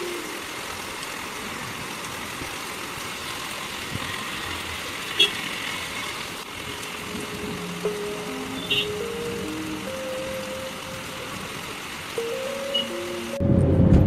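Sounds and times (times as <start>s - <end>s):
rain hissing on wet street: 0.0s - 13.8s
traffic on wet road: 0.0s - 14.0s.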